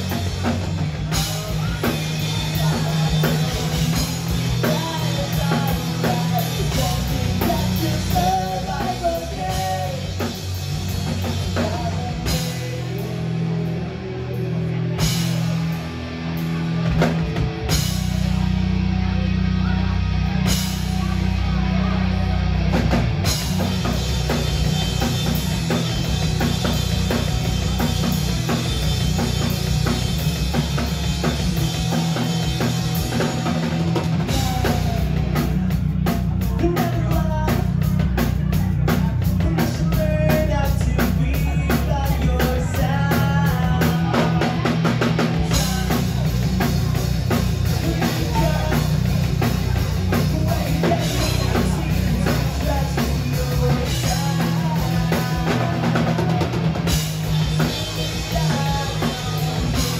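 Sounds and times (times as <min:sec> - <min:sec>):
fast drumming: 0:00.0 - 0:14.0, 0:14.9 - 0:18.6, 0:20.2 - 0:59.9
bending melodic guitar line: 0:00.0 - 0:59.9
rock band playing loud: 0:00.0 - 0:59.9.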